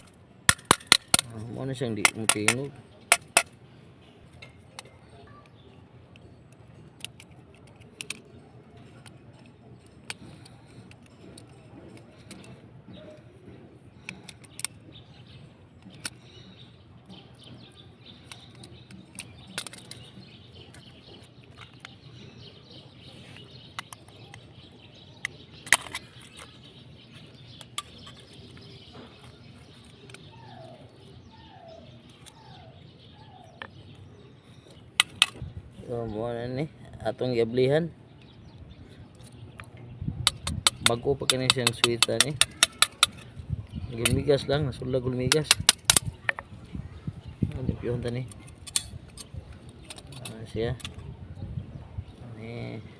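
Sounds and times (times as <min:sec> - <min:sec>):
bird calls: 0:00.0 - 0:52.9.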